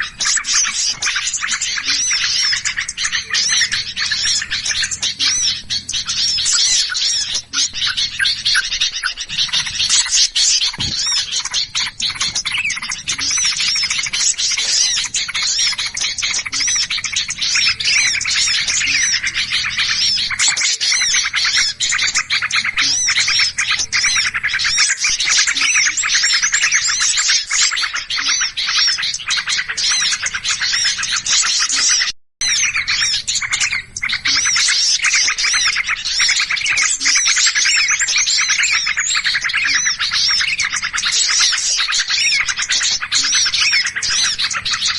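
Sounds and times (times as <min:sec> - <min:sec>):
small birds chattering and chirping: 0:00.0 - 0:44.9.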